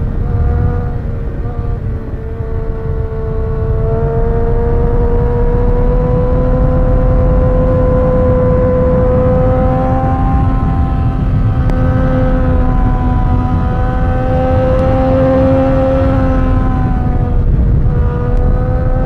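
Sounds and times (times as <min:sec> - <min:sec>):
motorcycle engine at high revs: 0:00.0 - 0:19.0
wind rumble on microphone: 0:00.0 - 0:19.0.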